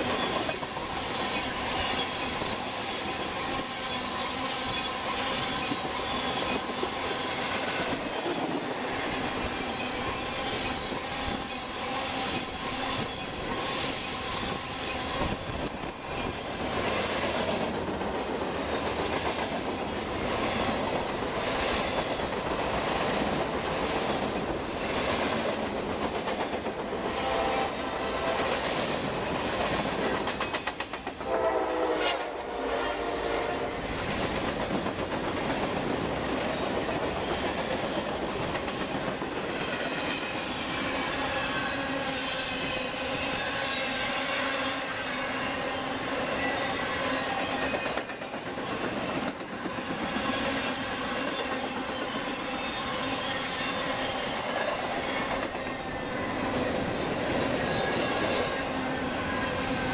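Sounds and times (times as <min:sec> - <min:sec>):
train wheels clicking over rail joints: 0:00.0 - 0:27.8, 0:28.4 - 0:31.3, 0:33.9 - 0:41.7, 0:46.0 - 0:59.9.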